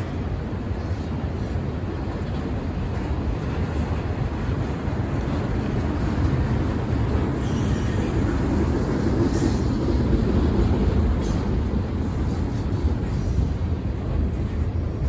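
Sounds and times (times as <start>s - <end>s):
freight train cars rumbling: 0.0s - 15.0s.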